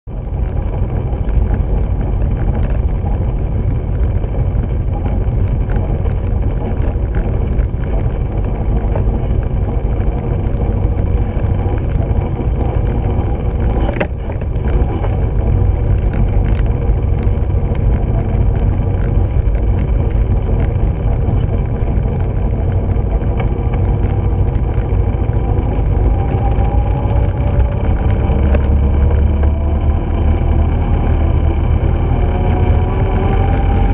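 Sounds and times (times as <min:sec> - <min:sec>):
rig rolling on dirt trail: 0:00.1 - 0:33.9.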